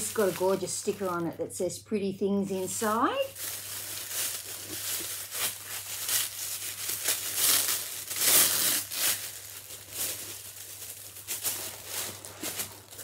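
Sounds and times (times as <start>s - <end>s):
tissue paper rustling: 0.0s - 1.3s, 2.6s - 13.0s.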